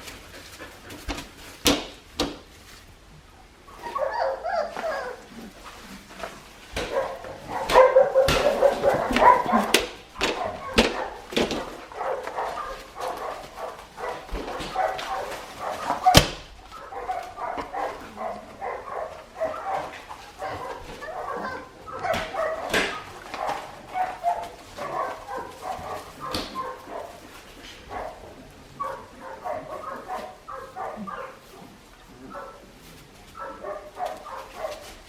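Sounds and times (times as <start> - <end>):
puppies yelping: 3.6 - 35.0.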